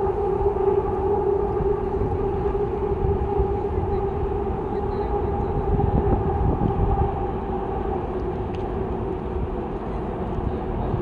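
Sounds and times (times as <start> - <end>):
continuous drone: 0.0 - 11.0
train rumbling over bridge: 0.0 - 11.0.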